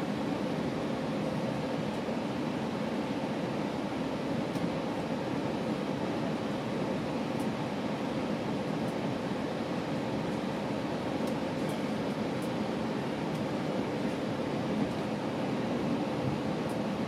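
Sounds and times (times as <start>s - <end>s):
train coach rumble and hiss: 0.0s - 17.0s.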